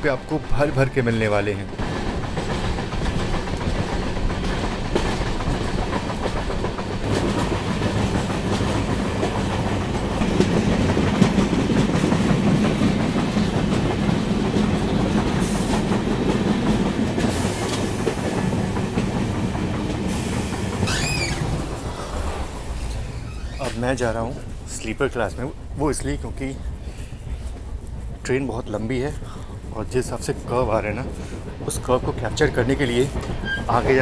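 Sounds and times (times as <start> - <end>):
train wheels rumbling and rattling: 0.0 - 34.0.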